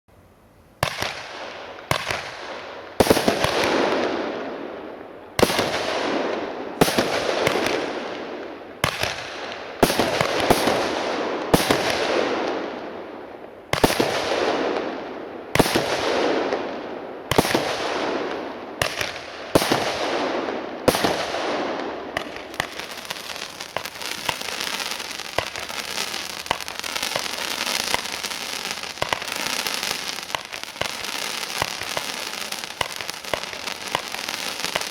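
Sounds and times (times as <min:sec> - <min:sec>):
firework bangs with hissing tails: 0:00.8 - 0:34.9
firework crackling: 0:00.8 - 0:34.9.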